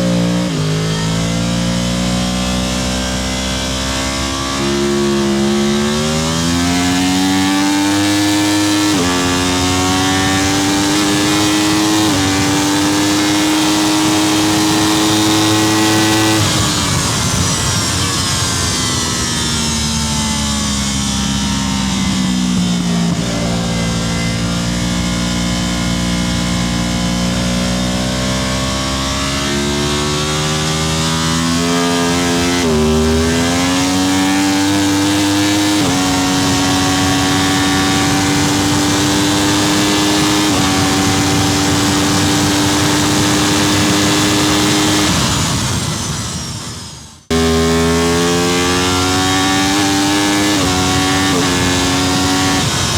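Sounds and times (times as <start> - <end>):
racing motorcycle engine revving: 0.0 - 52.9.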